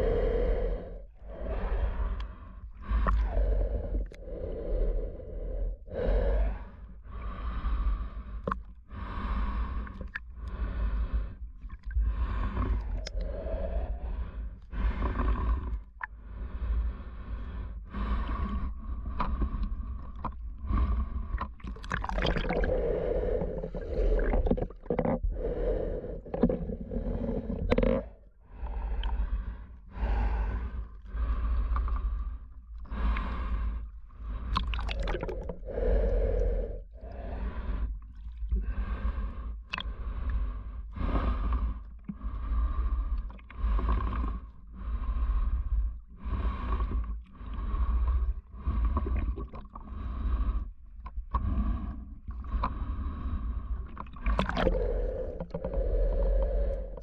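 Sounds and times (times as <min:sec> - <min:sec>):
breathing through snorkel mask: 0:00.0 - 0:57.0
water rumbling: 0:00.0 - 0:57.0.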